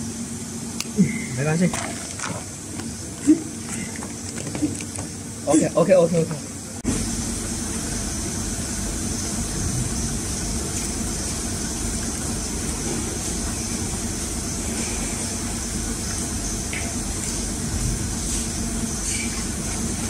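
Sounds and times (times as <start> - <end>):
machine hum and hiss: 0.0 - 20.0.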